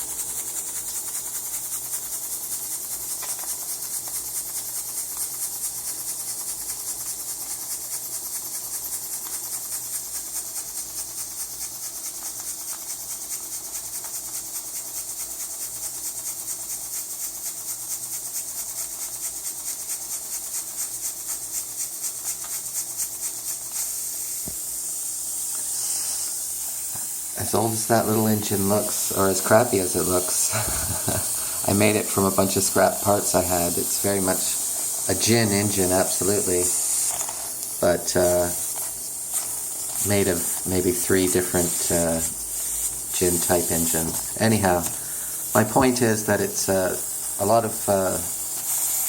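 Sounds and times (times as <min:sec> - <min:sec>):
steam hissing: 0:00.0 - 0:49.0.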